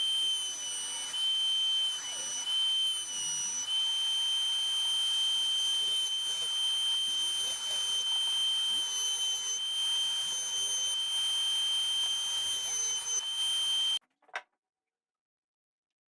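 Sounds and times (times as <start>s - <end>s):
power tool motor whining: 0.0s - 14.0s.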